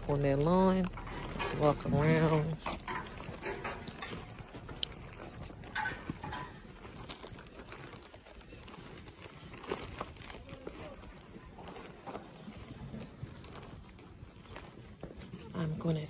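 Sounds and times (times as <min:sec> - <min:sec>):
footsteps on concrete: 0:00.0 - 0:16.0
grocery bags rustling: 0:00.0 - 0:16.0.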